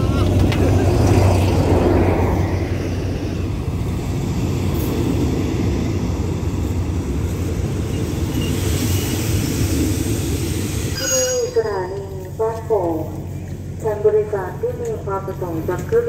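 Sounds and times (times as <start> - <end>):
diesel locomotive engine drone: 0.0 - 16.0
train wheels rumbling on rails: 0.0 - 16.0.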